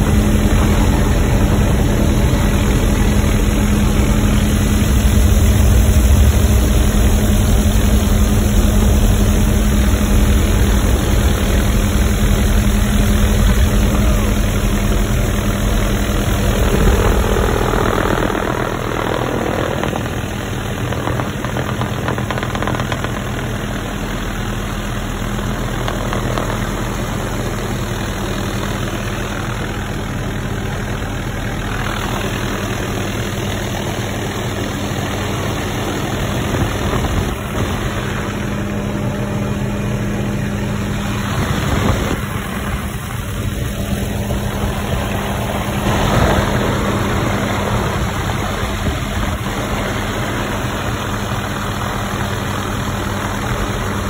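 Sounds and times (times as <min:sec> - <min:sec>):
helicopter engine and rotor: 0:00.0 - 0:54.0.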